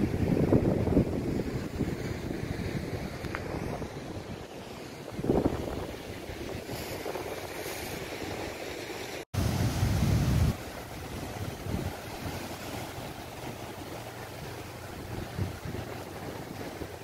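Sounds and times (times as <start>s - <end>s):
wind on the microphone: 0.0s - 8.6s, 9.4s - 17.0s
surf washing over rocks: 0.0s - 17.0s.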